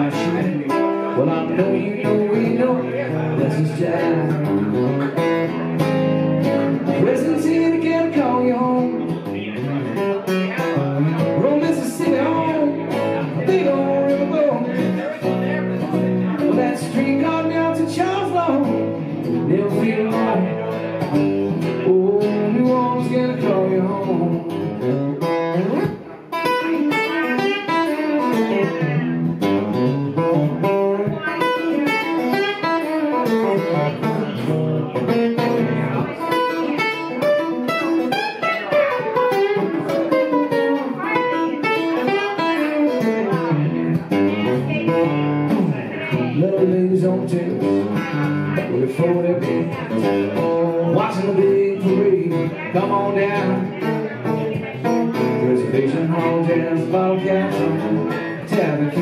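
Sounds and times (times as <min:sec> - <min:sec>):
electric guitar solo: 0:00.0 - 0:59.0.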